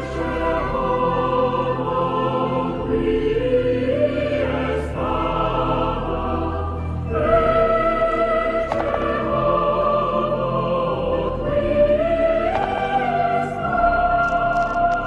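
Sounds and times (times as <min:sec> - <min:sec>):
choir-like chords: 0:00.0 - 0:15.0.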